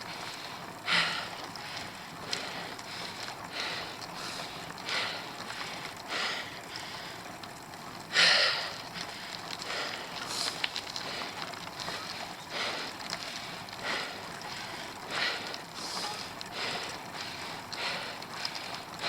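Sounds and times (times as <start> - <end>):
heavy rhythmic breathing: 0.0 - 19.0
wind and riding noise: 0.0 - 19.0.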